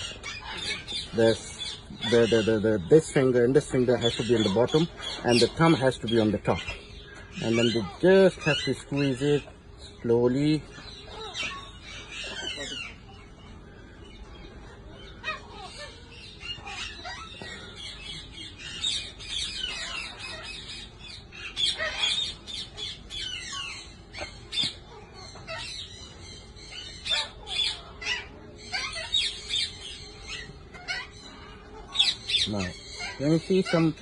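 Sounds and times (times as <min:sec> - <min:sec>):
birds squawking and chirping: 0:00.0 - 0:34.0.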